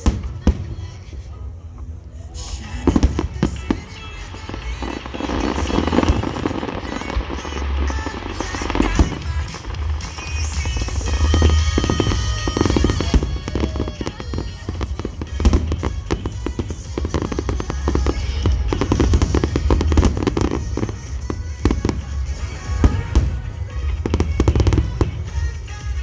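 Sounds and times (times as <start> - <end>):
dense crackling: 0.0 - 26.0
fireworks shells bursting: 0.0 - 26.0
low booming rumble: 0.0 - 26.0
music over outdoor loudspeakers: 0.0 - 26.0.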